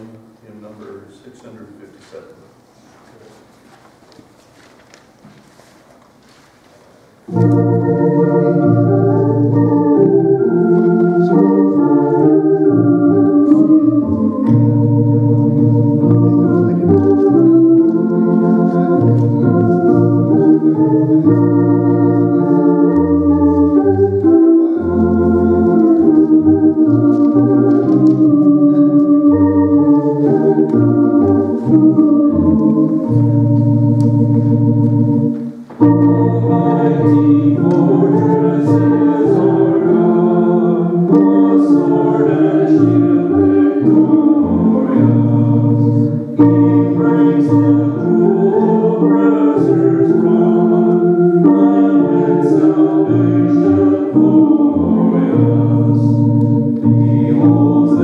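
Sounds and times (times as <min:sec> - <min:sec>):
church organ playing chords: 0:07.3 - 0:58.0.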